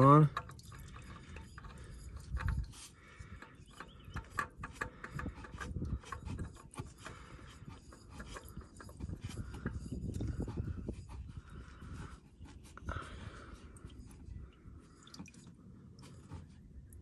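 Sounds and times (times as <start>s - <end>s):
oil filter rubbing and scraping: 0.0s - 17.0s.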